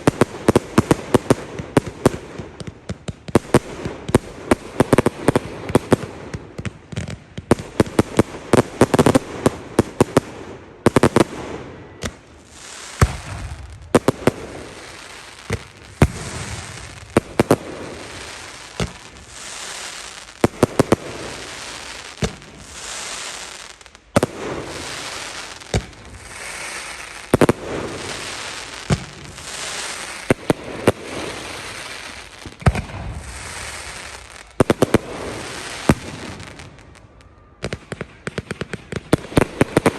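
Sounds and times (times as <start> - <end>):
fireworks crackling and banging: 0.0 - 39.9
fireworks fizzing: 0.0 - 39.9.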